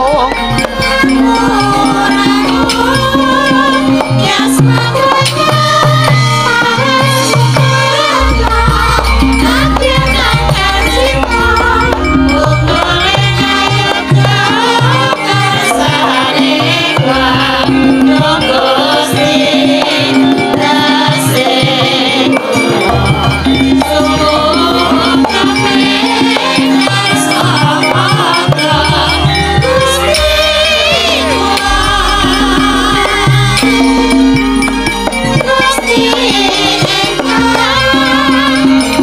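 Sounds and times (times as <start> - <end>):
drum strokes: 0.0 - 39.0
gamelan ensemble playing: 0.0 - 39.0.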